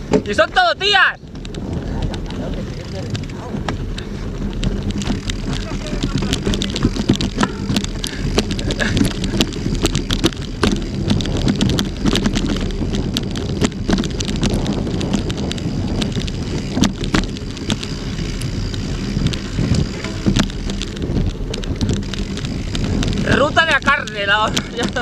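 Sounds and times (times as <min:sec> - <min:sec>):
bike rattling and knocking: 0:00.0 - 0:25.0
wind rumbling on microphone: 0:00.0 - 0:25.0
tyres crunching on stones: 0:02.5 - 0:25.0.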